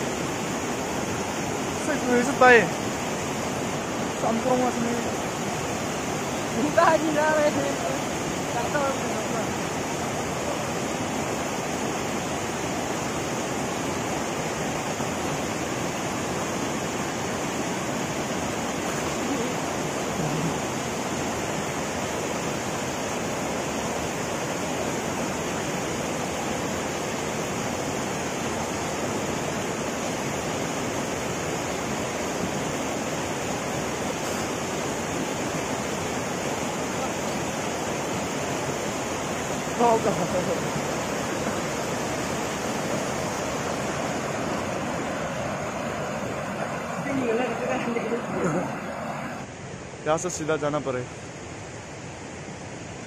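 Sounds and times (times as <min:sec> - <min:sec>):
river rushing: 0:00.0 - 0:53.0.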